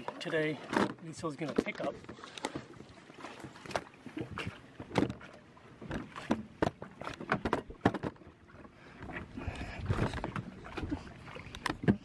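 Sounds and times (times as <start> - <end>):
water splashing: 0.0 - 12.0
dinghy knocking against boat: 0.2 - 8.4, 9.0 - 12.0.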